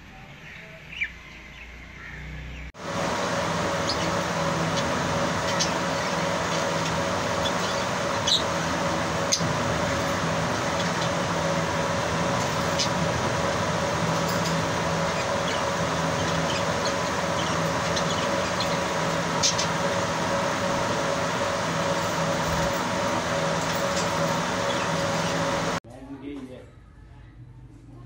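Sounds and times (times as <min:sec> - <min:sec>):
steady mechanical hum and hiss: 0:00.0 - 0:28.0
lovebirds chirping: 0:00.3 - 0:25.8.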